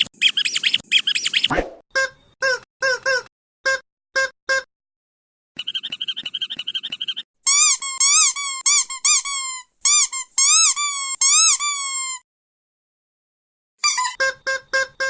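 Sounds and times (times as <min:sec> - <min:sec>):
squeaky chicken toy squeaking: 0:00.2 - 0:04.7, 0:05.6 - 0:12.2, 0:13.8 - 0:15.0.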